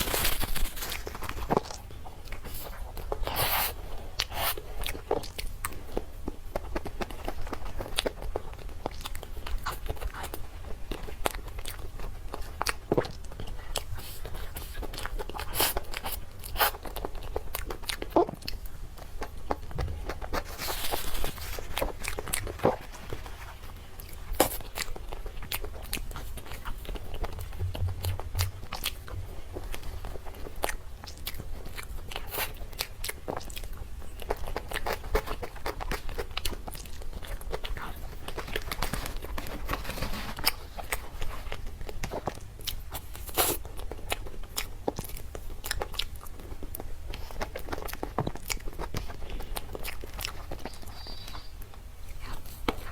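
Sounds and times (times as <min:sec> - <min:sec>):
biting and chewing: 0:00.0 - 0:52.9
steady low hum: 0:00.0 - 0:52.9.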